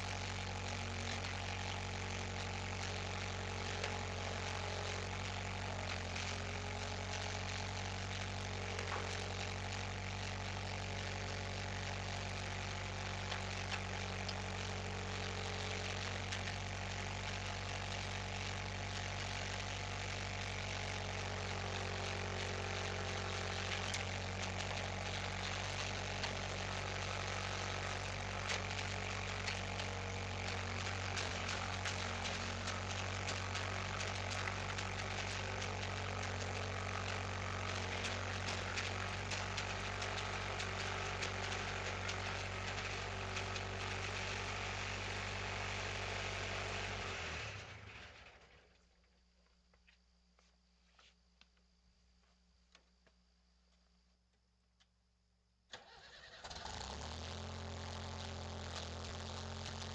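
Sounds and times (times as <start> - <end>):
engine idling: 0.0 - 48.2, 55.8 - 59.9.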